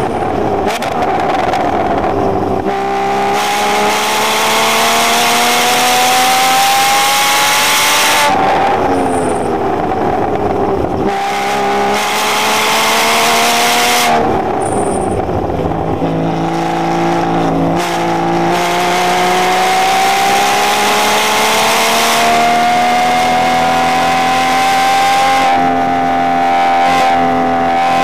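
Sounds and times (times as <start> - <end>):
sports car engine accelerating: 0.0 - 28.0.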